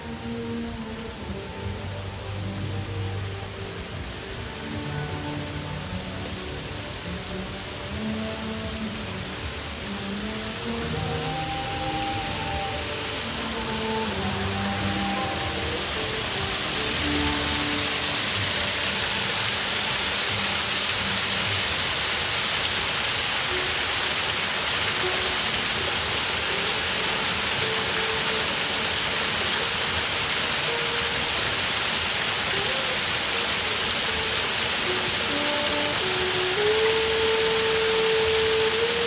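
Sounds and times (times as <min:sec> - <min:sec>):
faint music: 0:00.0 - 0:39.0
small waterfall rushing: 0:00.0 - 0:39.0.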